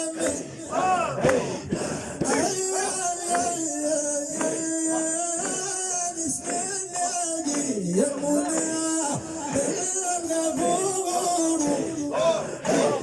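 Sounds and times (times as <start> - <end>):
voices chanting long notes: 0.0 - 13.0.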